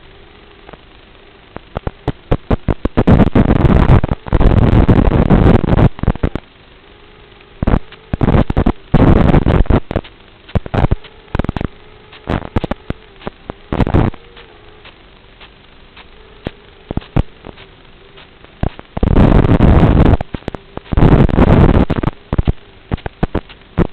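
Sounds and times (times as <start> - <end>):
faint steady hum: 0.0 - 23.9
rain drops tapping microphone: 0.0 - 23.9.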